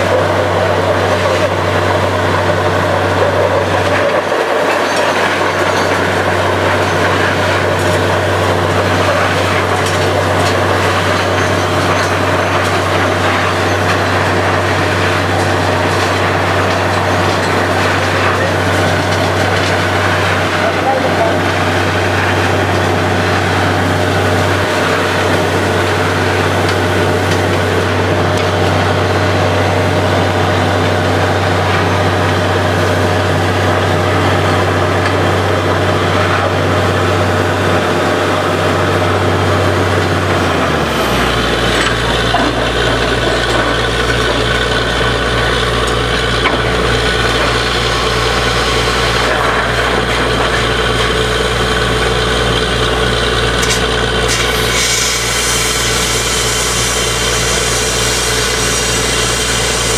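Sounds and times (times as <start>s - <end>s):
drilling rig engine droning: 0.0s - 59.9s.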